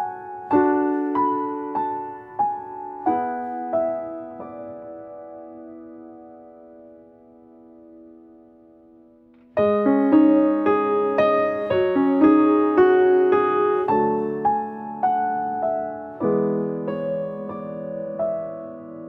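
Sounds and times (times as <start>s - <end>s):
gentle keyboard melody: 0.0s - 19.0s.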